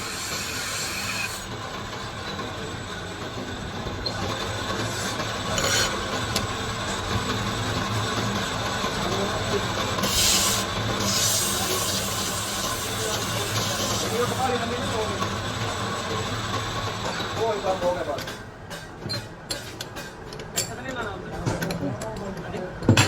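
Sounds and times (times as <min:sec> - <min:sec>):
workshop machinery running: 0:00.0 - 0:23.0.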